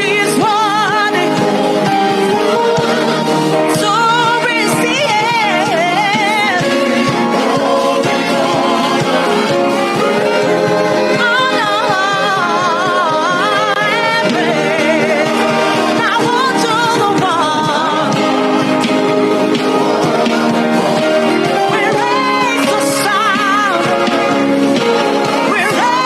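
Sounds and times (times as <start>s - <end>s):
held instrumental chords: 0.0s - 26.0s
singer with vibrato: 0.0s - 26.0s.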